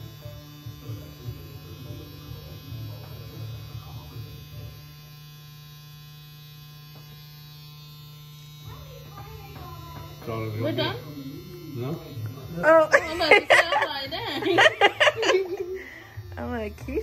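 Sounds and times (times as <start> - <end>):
tattoo machine buzzing: 0.0 - 17.0.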